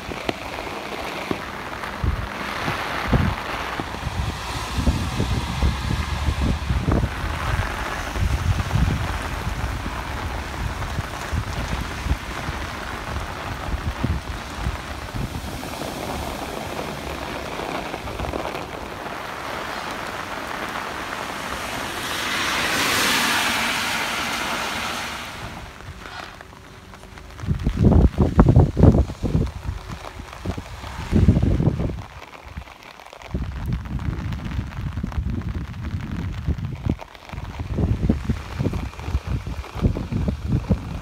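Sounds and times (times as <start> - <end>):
cars swishing through water: 0.0 - 33.7
heavy rain falling: 0.0 - 41.0
wind buffeting microphone: 0.0 - 41.0.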